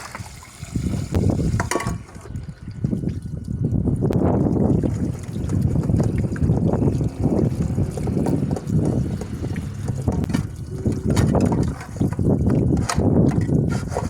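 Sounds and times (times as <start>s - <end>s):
water running and splashing: 0.0s - 1.9s, 2.7s - 13.4s.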